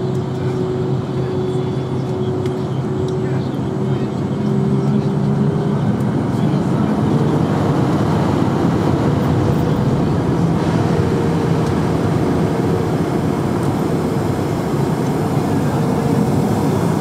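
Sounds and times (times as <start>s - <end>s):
aircraft engines idling: 0.0s - 17.0s
airframe low rumble: 0.0s - 17.0s.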